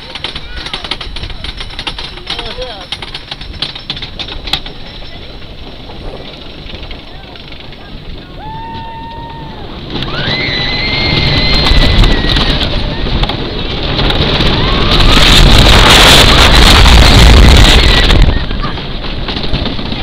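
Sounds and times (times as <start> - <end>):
roller coaster rumbling and clattering: 0.0 - 20.0
wind buffeting microphone: 0.0 - 20.0.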